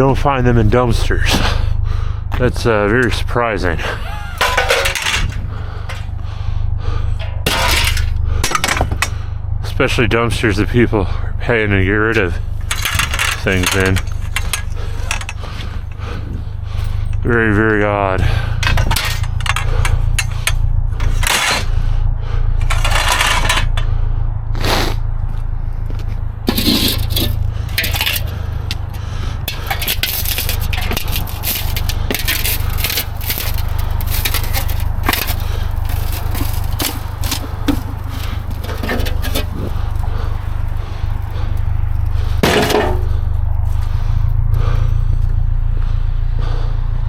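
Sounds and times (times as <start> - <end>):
scrap metal clanking and scraping: 0.0 - 10.7, 12.0 - 24.0, 25.9 - 45.0
steady low rumble: 0.0 - 47.0.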